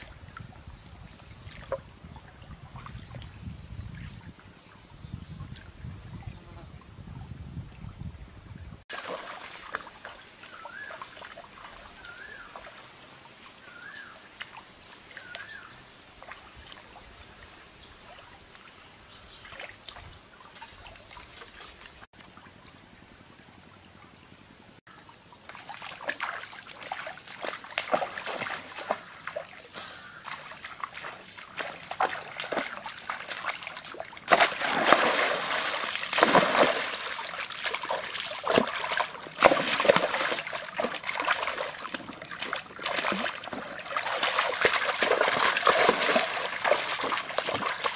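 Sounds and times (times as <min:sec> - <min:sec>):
water splashing in a stream: 0:00.0 - 0:04.4, 0:08.8 - 0:22.7, 0:24.8 - 0:47.9.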